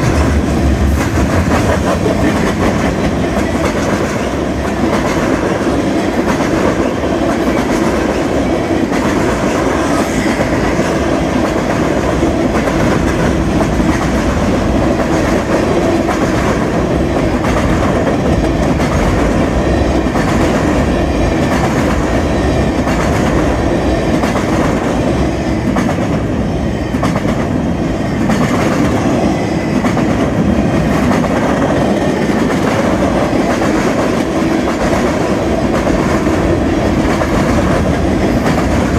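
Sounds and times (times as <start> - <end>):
train wheels clacking over rail joints: 0.0 - 25.0, 28.2 - 38.9.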